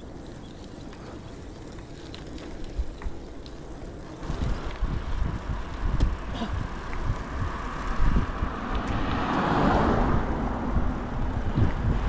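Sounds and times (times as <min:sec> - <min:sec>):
car approaching: 0:00.0 - 0:12.0
wind buffeting microphone: 0:00.0 - 0:12.0.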